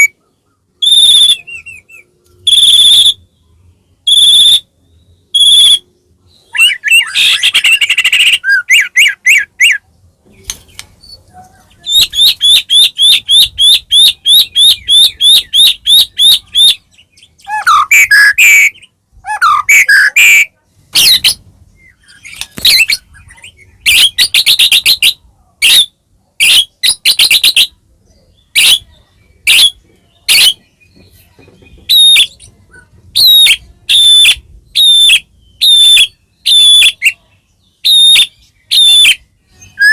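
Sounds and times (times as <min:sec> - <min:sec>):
bird singing varied phrases: 0:00.0 - 0:39.9.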